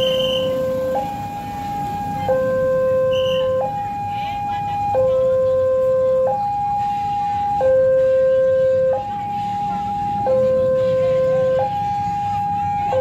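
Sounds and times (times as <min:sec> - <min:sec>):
level crossing alarm two-tone: 0:00.0 - 0:13.0.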